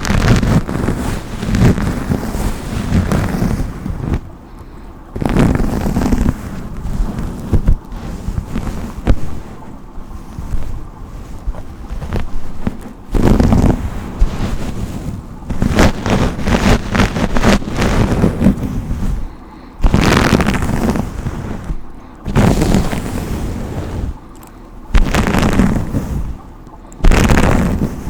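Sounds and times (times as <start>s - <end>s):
hairbrush strokes through hair: 0.0s - 4.2s, 5.2s - 24.2s.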